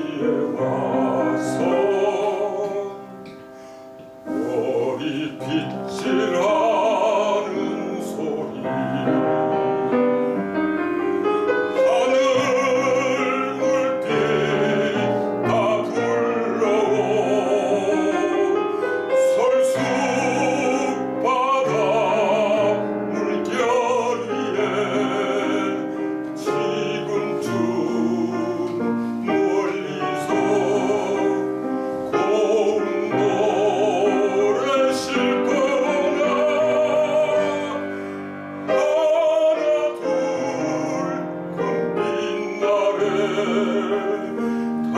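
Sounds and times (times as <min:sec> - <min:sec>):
baritone singing with vibrato: 0:00.0 - 0:44.9
piano accompaniment: 0:00.0 - 0:44.9.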